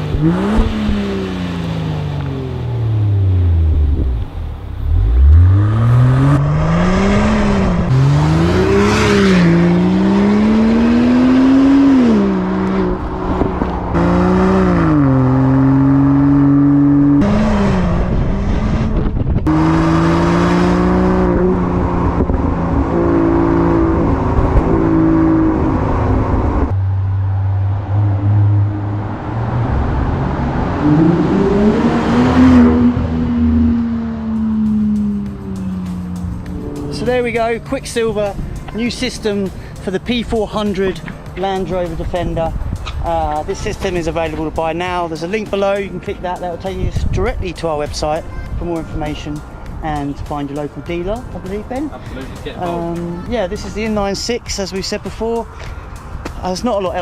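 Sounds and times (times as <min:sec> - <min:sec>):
car engine accelerating and revving: 0:00.0 - 0:46.2.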